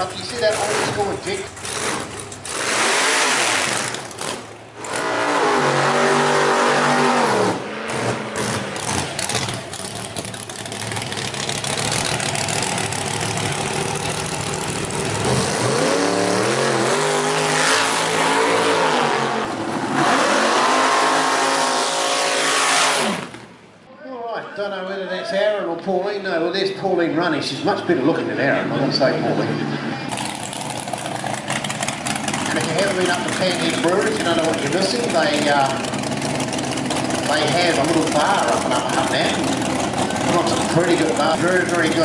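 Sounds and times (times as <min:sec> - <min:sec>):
drag racing engines revving: 0:00.0 - 0:23.7, 0:26.1 - 0:42.0.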